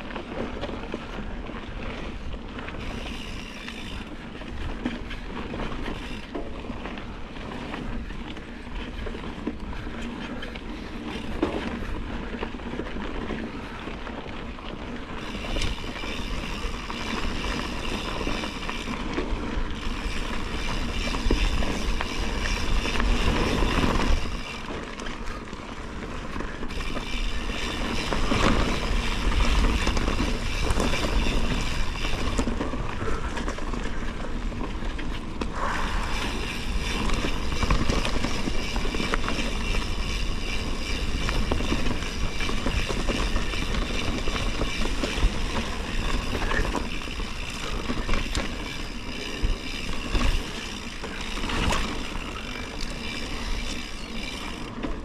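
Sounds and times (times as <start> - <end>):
bicycle tyre rumble: 0.0 - 55.0
bike rattling: 0.0 - 55.0.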